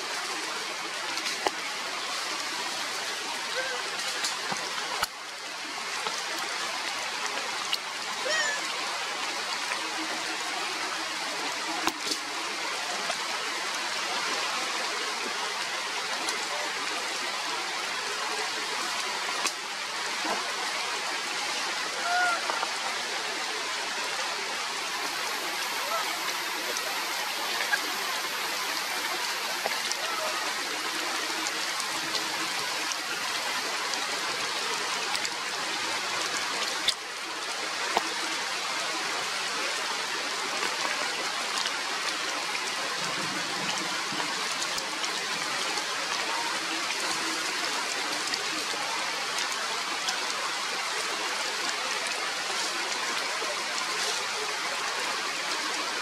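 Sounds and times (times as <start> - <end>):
rain falling through foliage: 0.0 - 56.0.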